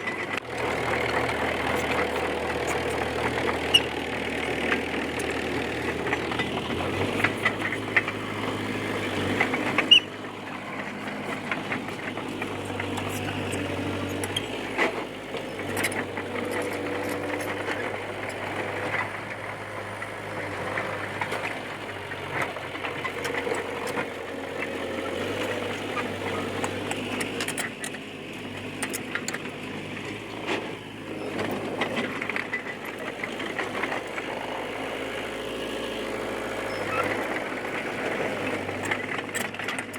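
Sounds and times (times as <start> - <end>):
clanks and clicks: 0.0 - 35.2, 36.6 - 39.9
bulldozer diesel engine running: 0.0 - 39.9.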